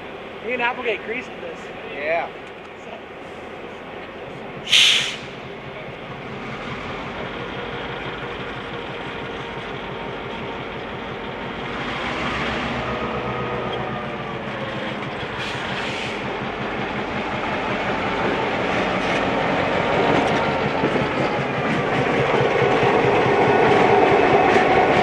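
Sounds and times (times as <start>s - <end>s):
train wheels rolling on track: 0.0s - 25.0s.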